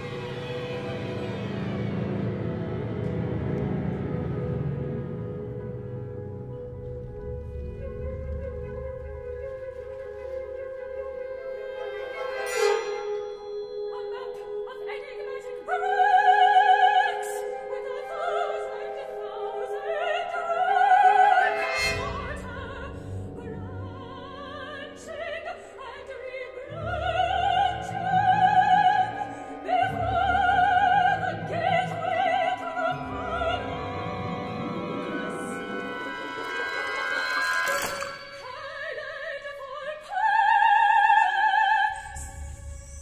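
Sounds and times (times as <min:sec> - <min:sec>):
symphony orchestra chords: 0:00.0 - 0:41.8
operatic soprano singing: 0:04.6 - 0:43.0.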